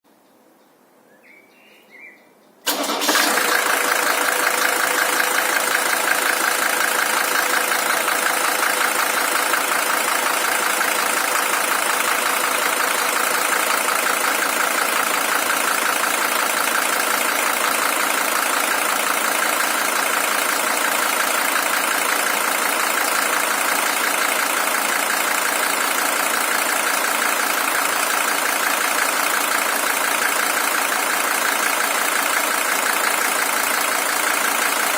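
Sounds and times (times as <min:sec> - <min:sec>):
diesel engine starting and idling: 0:02.6 - 0:34.9.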